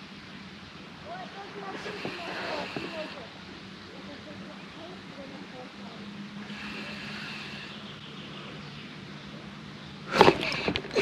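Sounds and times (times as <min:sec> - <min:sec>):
boat motor humming: 0:01.1 - 0:11.0.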